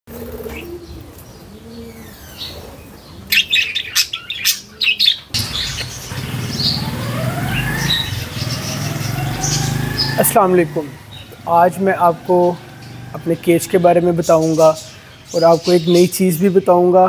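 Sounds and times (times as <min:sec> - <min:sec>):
caged birds calling and chirping: 0:00.1 - 0:17.0.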